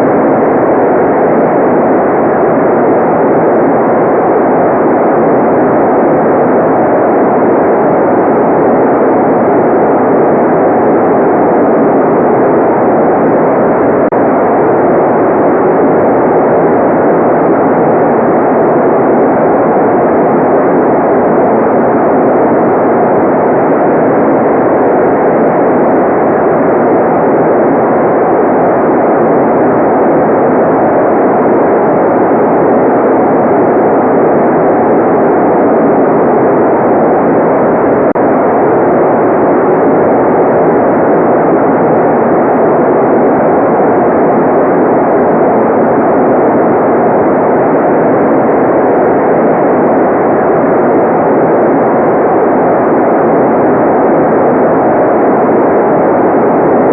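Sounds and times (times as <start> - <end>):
loud steady white noise: 0.0 - 56.9.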